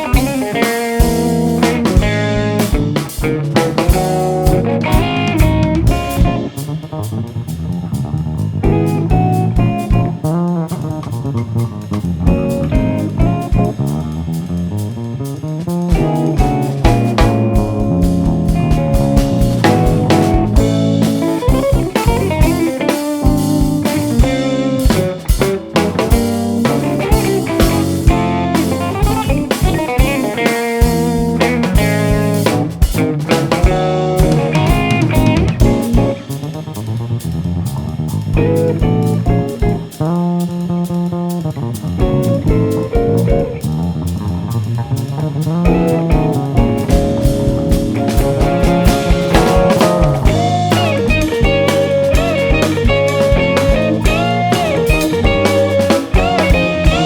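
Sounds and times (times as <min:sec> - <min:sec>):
lead guitar: 0:00.0 - 0:57.0
live jazz fusion band: 0:00.0 - 0:57.0.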